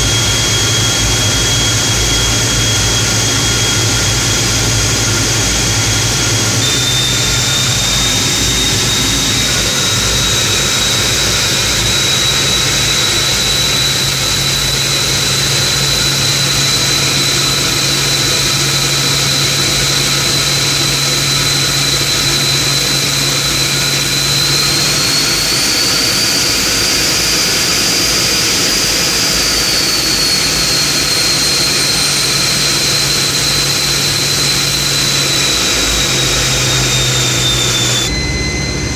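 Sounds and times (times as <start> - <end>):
jet engine whine: 0.0 - 38.9
low hum: 0.0 - 38.9.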